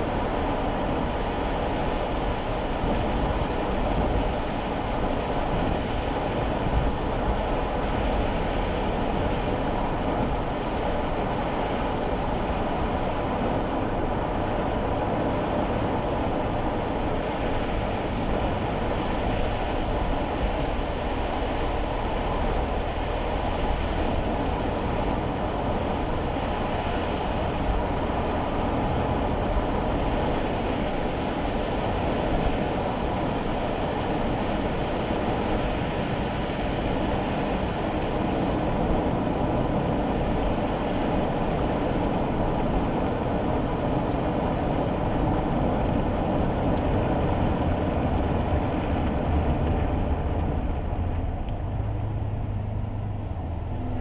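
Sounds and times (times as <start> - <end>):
road and tyre noise in car: 0.0 - 54.0.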